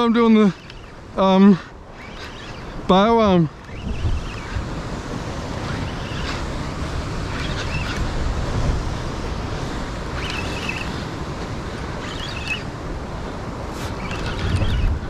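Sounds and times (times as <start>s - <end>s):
ocean swell washing against rock: 0.0s - 15.0s
wind buffeting microphone: 0.0s - 15.0s.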